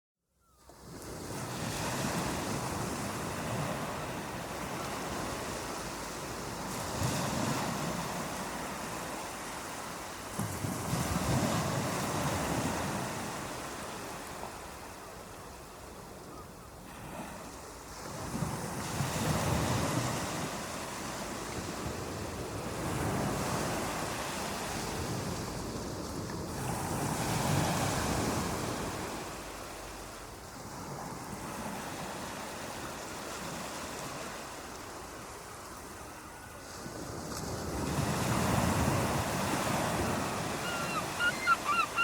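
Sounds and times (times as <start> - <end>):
ocean waves washing ashore: 0.8 - 42.0.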